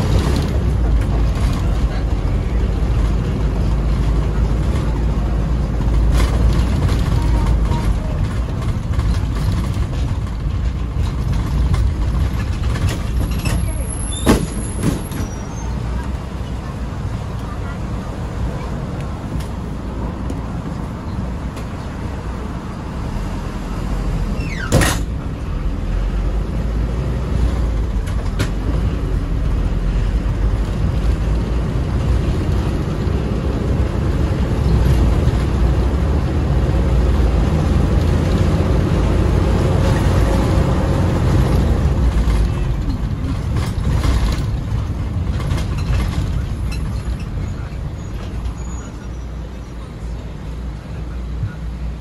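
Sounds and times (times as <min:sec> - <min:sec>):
minibus engine and road rumble: 0:00.0 - 0:52.0.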